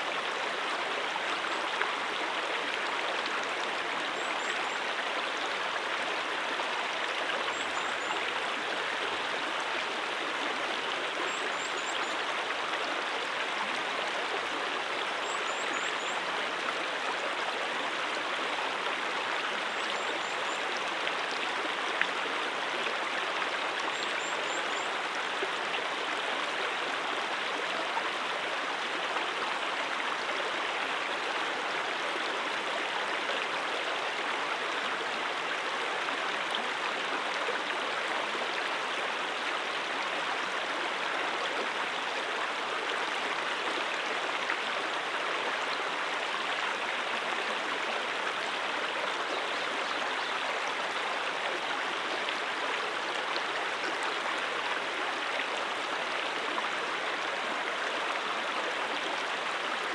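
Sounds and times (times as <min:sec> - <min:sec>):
brook water flowing: 0:00.0 - 0:59.9.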